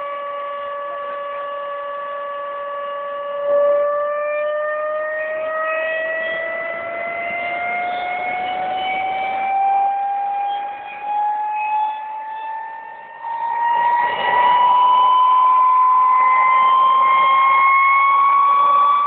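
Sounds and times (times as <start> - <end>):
turbojet engine whine: 0.0 - 19.0.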